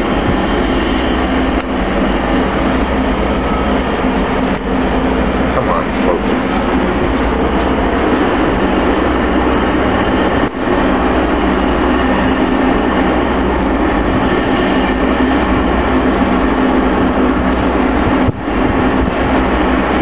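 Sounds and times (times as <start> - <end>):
mechanical drone with low rumble: 0.0 - 20.0.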